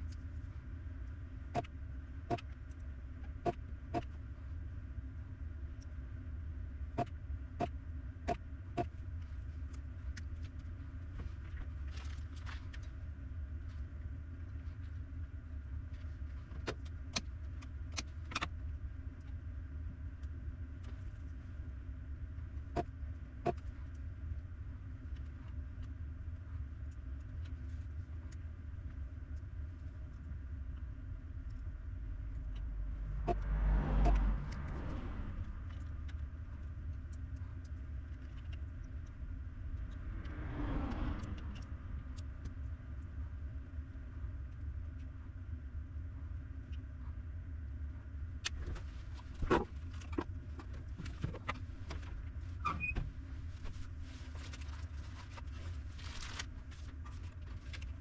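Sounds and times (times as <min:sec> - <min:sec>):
rushing noise with low rumble: 0:00.0 - 0:58.0
steady low hum: 0:00.0 - 0:58.0.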